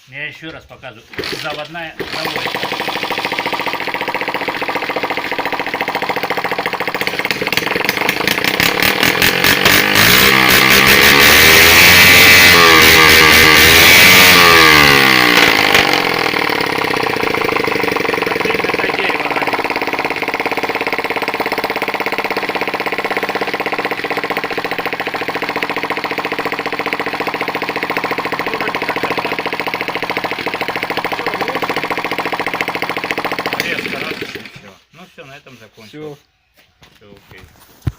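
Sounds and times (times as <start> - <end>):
moped engine revving and idling: 1.1 - 34.8.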